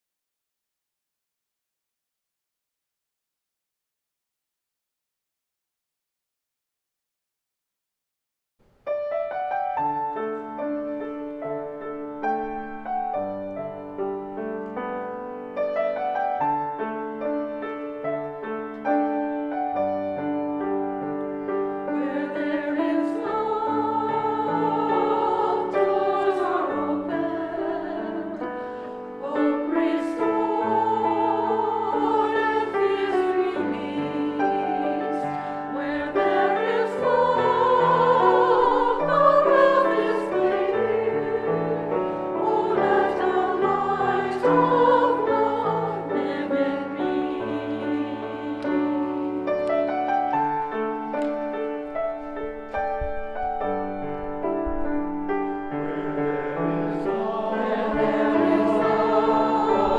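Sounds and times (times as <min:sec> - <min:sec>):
piano accompaniment: 0:08.8 - 0:59.9.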